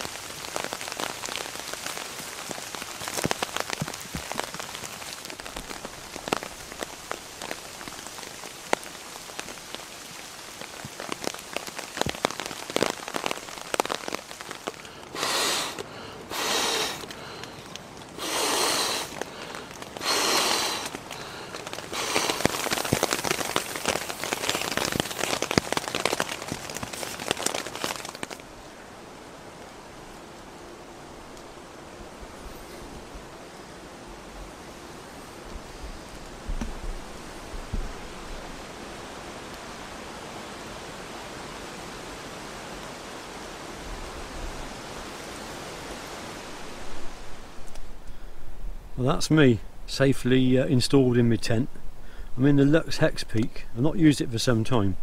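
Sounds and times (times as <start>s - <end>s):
rain pattering on tent: 0.0s - 55.0s
steady rushing hiss: 0.0s - 55.0s.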